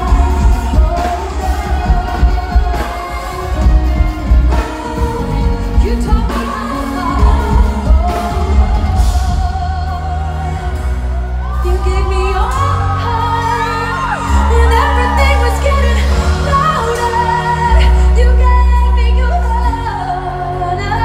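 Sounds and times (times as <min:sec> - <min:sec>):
pop band with keyboards and bass: 0:00.0 - 0:21.0
woman singing lead: 0:00.0 - 0:21.0.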